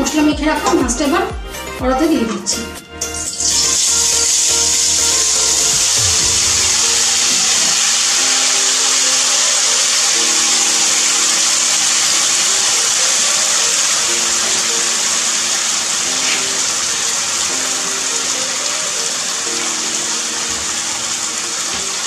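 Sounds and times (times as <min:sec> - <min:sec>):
fish sizzling in hot oil: 0:03.3 - 0:22.0.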